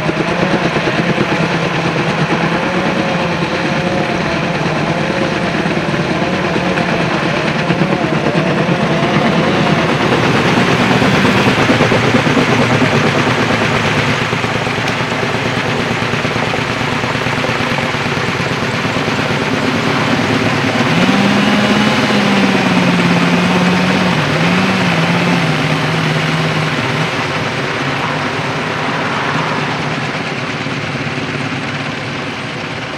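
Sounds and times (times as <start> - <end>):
helicopter rotor and engine: 0.0 - 32.9
wavering engine tone: 0.0 - 32.9.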